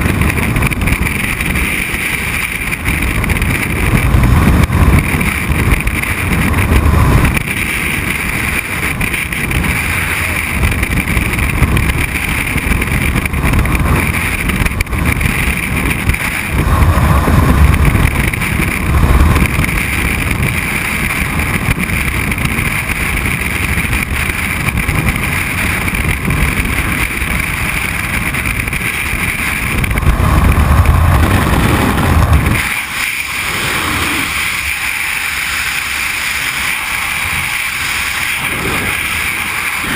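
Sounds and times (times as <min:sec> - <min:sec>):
wind roaring over microphone: 0:00.0 - 0:39.9.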